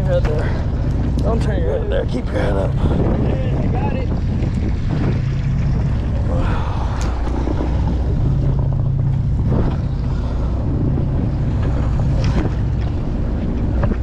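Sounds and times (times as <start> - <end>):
boat engine running: 0.0 - 14.0
wind on microphone: 0.0 - 14.0.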